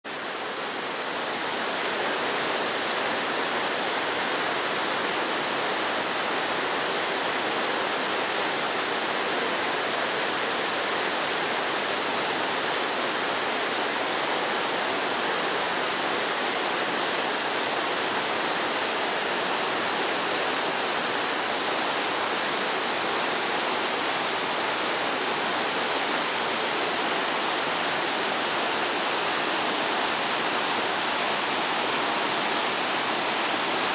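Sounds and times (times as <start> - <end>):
stream rushing over boulders: 0.1 - 33.9.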